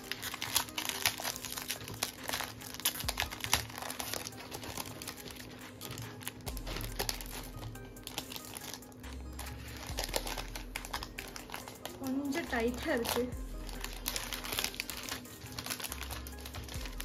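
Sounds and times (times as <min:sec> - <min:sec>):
cellophane sleeve crinkling: 0:00.0 - 0:17.0.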